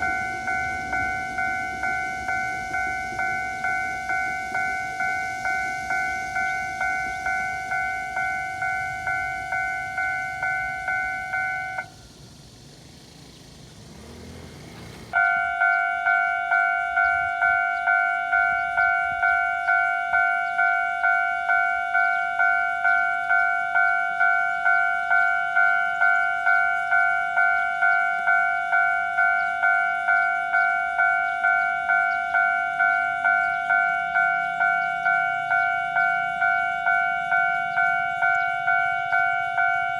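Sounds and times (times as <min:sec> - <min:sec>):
level crossing warning bell ringing: 0:00.0 - 0:12.2, 0:15.1 - 0:39.9.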